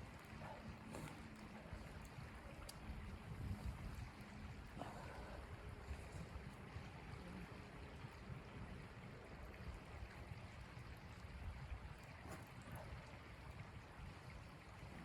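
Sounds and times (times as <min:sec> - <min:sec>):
wind blowing against a tent: 0:00.0 - 0:15.0.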